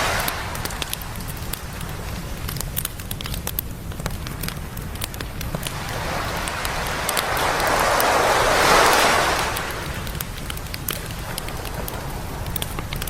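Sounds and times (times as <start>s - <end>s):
campfire crackling and popping: 0.0s - 13.0s
low rumble of surf: 0.0s - 13.0s.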